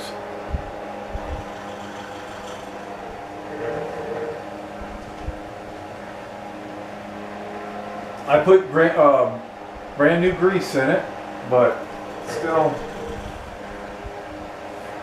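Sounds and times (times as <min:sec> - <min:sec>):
fan oscillation gears noise: 0:00.0 - 0:15.0
table fan humming: 0:00.0 - 0:15.0.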